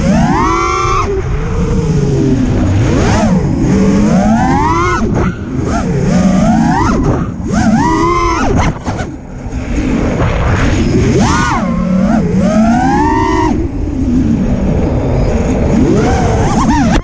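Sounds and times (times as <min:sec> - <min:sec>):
quadcopter motors whining: 0:00.0 - 0:10.2, 0:10.8 - 0:17.0.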